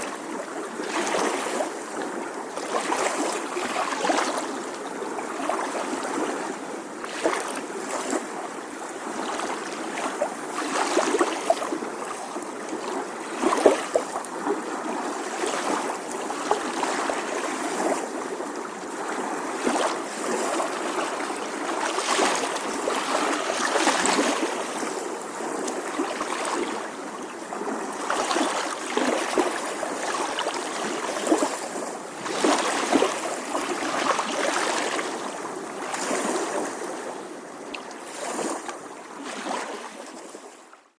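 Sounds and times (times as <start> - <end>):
small ocean waves lapping on shore: 0.0 - 40.9.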